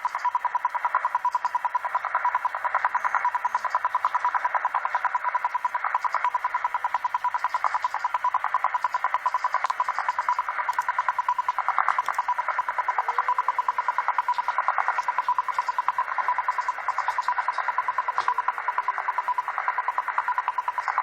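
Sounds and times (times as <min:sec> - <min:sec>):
radio band noise: 0:00.0 - 0:21.0
rapid pulsed tone beeps: 0:00.0 - 0:21.0.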